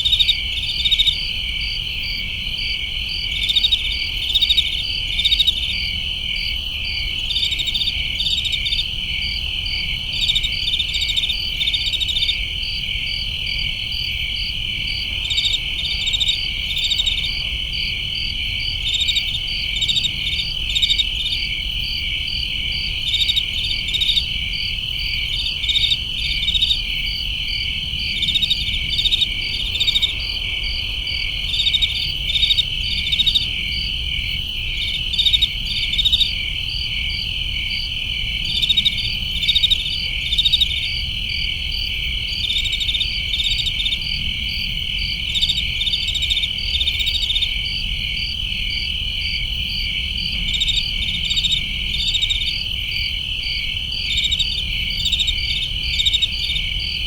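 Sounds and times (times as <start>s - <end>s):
crickets trilling: 0.0s - 57.0s
pulsed cricket chirps: 0.0s - 57.0s.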